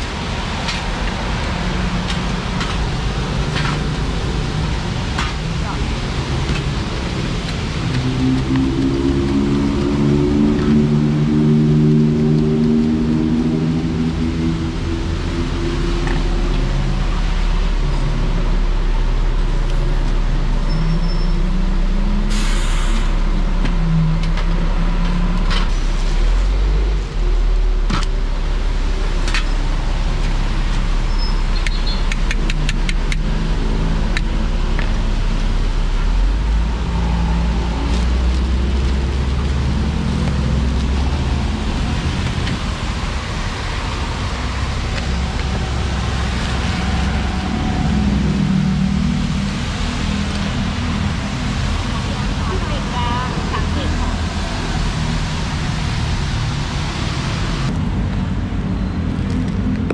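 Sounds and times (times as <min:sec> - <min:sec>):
passing vehicle engines: 0:00.0 - 0:59.9.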